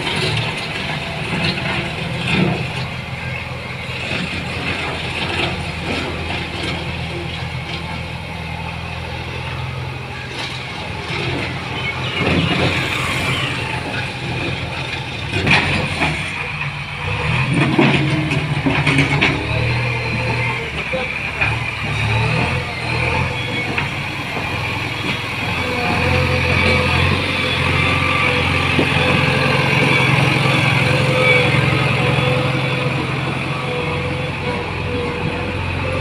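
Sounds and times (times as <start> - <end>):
diesel engine under load: 0.0 - 36.0.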